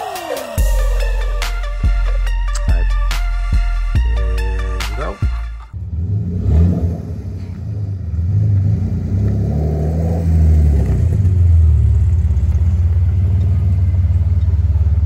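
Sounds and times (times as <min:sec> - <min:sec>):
car engine and exhaust: 0:00.6 - 0:15.0.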